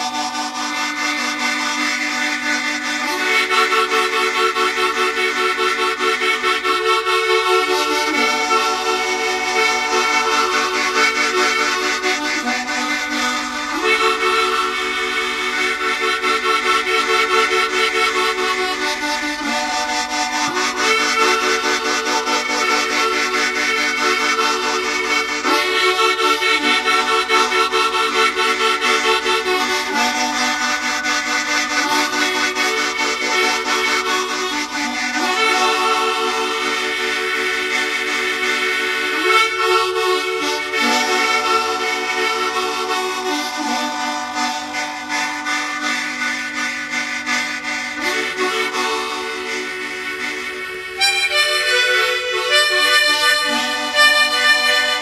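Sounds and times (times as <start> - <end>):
harmonica playing chords: 0.0 - 55.0.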